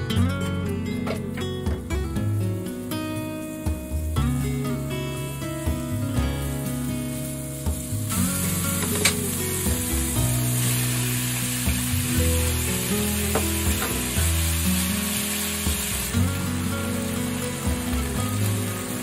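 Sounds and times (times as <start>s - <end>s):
light background music: 0.0s - 19.0s
meat and onion sizzling in oil: 1.6s - 19.0s.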